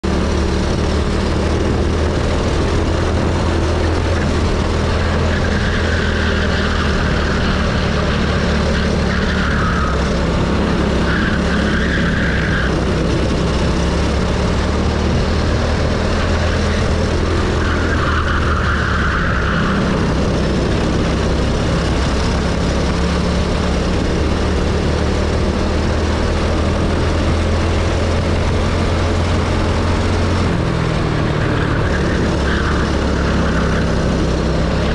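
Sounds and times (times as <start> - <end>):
go-kart engine drone: 0.0 - 34.9
wind rushing over microphone: 0.0 - 34.9.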